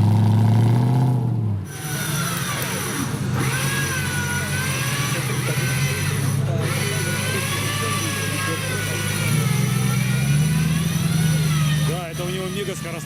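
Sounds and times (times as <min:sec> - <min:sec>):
vehicle engine running hard: 0:00.0 - 0:13.0
electric winch whine: 0:01.7 - 0:13.0.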